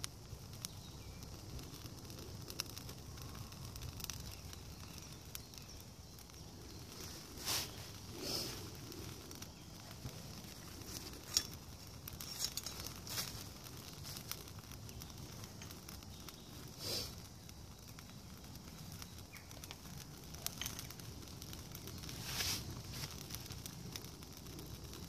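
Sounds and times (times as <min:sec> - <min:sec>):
fire snaps and pops: 0:00.0 - 0:25.0
wood fire burning: 0:00.0 - 0:25.0.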